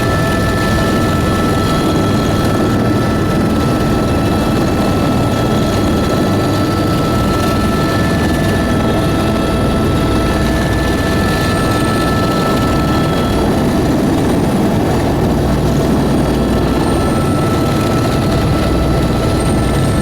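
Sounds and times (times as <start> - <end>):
aircraft engine drone in cabin: 0.0 - 20.0.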